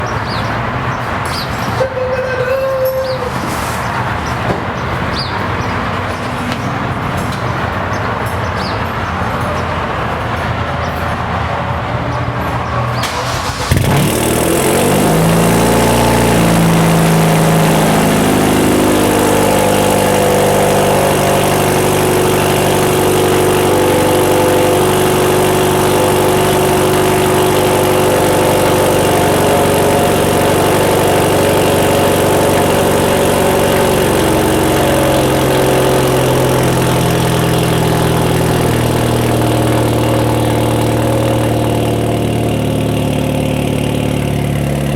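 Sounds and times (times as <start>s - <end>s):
car engine cranking and idling: 0.0s - 44.9s.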